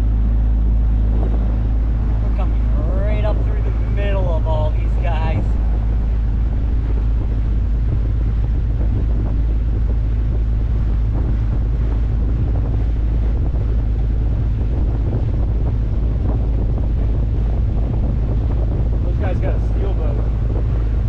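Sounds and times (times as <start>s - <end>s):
motorboat engine low rumble: 0.0s - 21.0s
water washing along hull: 0.0s - 21.0s
wind buffeting microphone: 0.0s - 21.0s.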